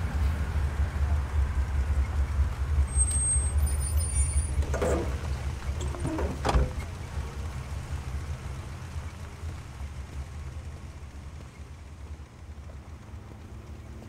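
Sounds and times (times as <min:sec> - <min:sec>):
large vehicle engine rumbling: 0:00.0 - 0:14.0.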